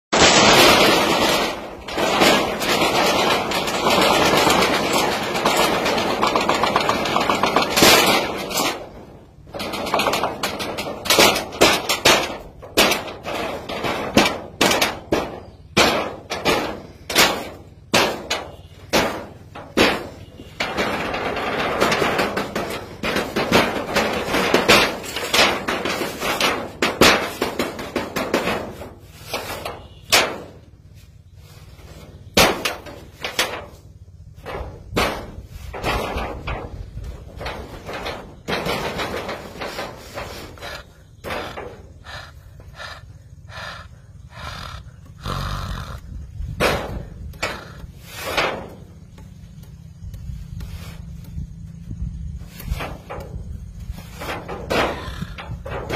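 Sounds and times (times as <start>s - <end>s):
sharp bangs and metallic clangs: 0.1s - 45.2s, 45.8s - 55.9s.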